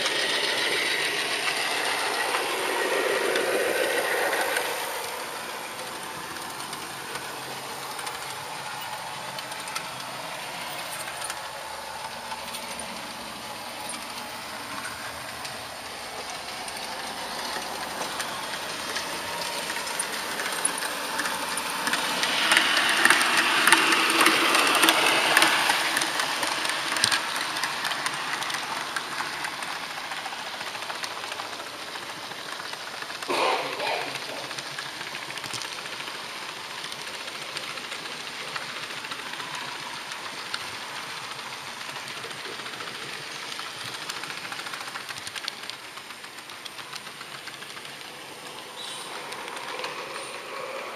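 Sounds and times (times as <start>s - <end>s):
model train rolling and motor noise: 0.0s - 50.9s
wheels clicking on rails: 0.0s - 50.9s.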